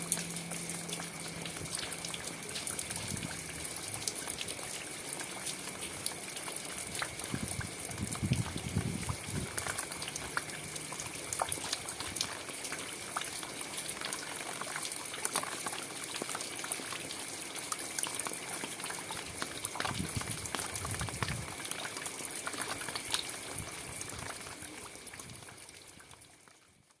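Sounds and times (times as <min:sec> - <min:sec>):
raindrops clicking: 0:00.0 - 0:27.0
steady rain hissing: 0:00.0 - 0:27.0.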